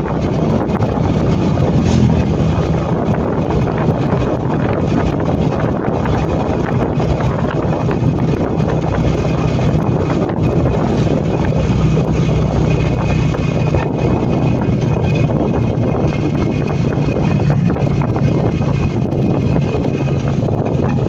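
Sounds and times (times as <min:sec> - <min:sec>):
motorcycle engine running: 0:00.0 - 0:21.0
wind on microphone: 0:00.0 - 0:21.0.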